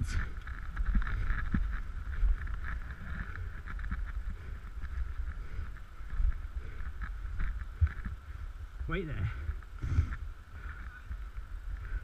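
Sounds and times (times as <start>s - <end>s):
crackle of movement over gravel: 0.0s - 12.0s
wind rumble on microphone: 0.0s - 12.0s.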